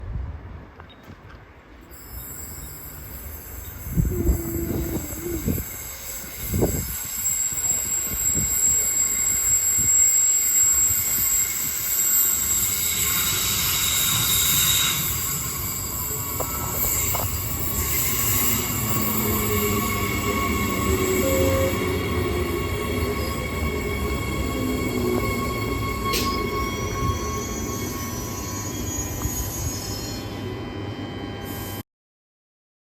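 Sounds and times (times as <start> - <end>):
train rail rumble: 0.1 - 31.3
high-pitched squealing tones: 1.8 - 30.6.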